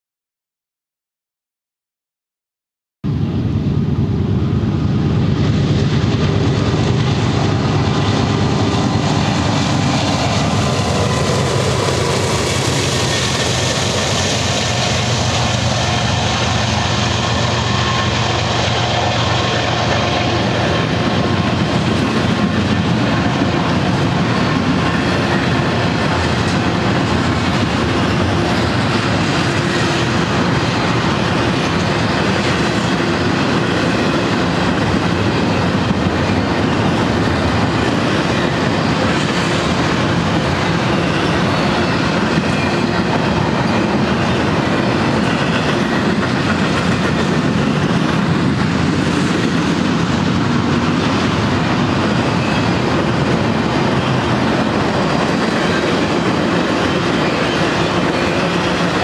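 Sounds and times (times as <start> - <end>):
locomotive engines rumbling: 3.1 - 59.0
train wheels clickety-clack: 5.2 - 59.0.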